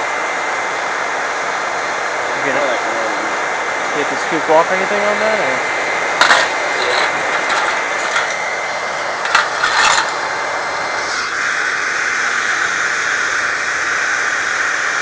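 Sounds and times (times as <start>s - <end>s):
furnace air blast roaring: 0.0s - 15.0s.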